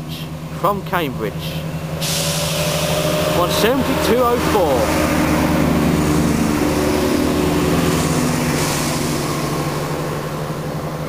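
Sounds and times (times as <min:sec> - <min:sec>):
diesel train engine hum: 0:00.0 - 0:11.0
train wheel and rail noise: 0:00.0 - 0:11.0.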